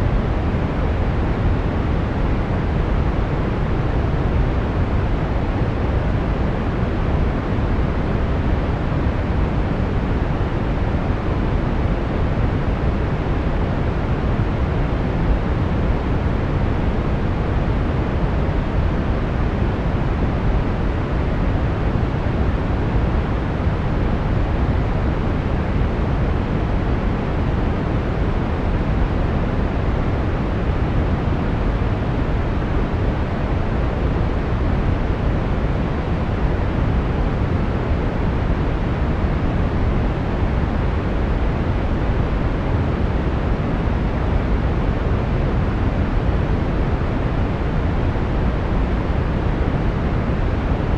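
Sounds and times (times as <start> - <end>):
brown noise hiss: 0.0 - 50.9.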